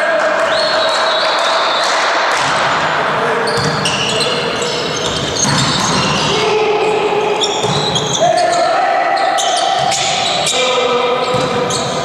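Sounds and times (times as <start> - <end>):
sports hall din: 0.0 - 12.0
shoes squeaking on court floor: 0.5 - 12.0.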